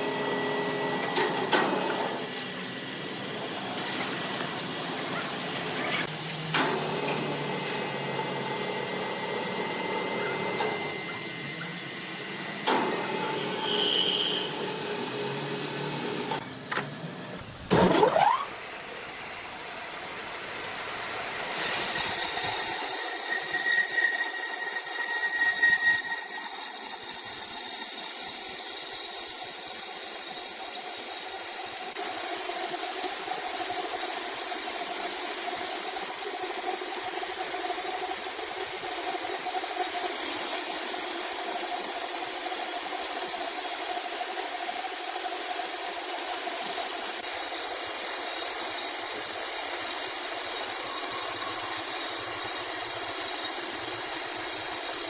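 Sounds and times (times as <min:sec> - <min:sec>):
sawmill machinery running: 0:00.0 - 0:17.5, 0:20.2 - 0:55.0
high machine whine: 0:00.0 - 0:18.3, 0:21.4 - 0:55.0.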